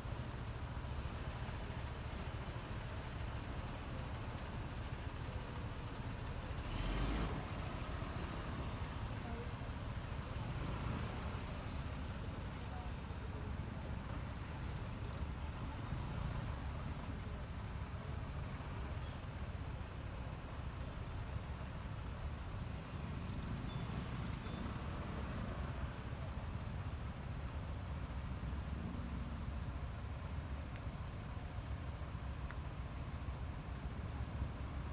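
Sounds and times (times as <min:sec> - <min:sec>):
scooter engine and road rumble: 0:00.0 - 0:34.9.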